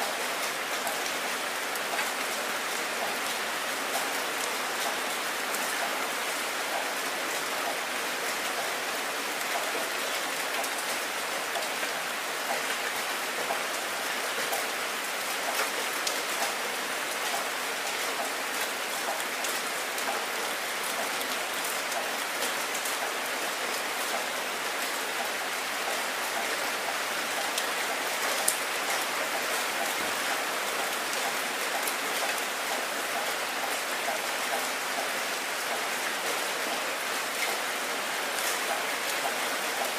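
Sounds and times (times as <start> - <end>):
heavy rain splashing: 0.0 - 39.9.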